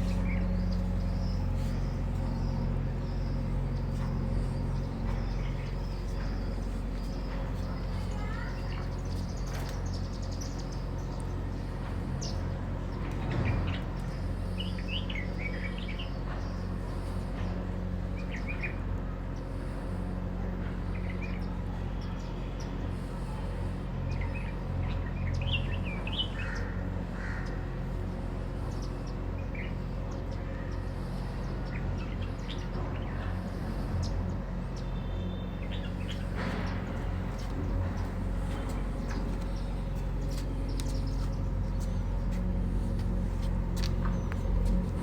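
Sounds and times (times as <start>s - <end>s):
sparrows chirping: 0.0s - 45.0s
steady low hum: 0.0s - 45.0s.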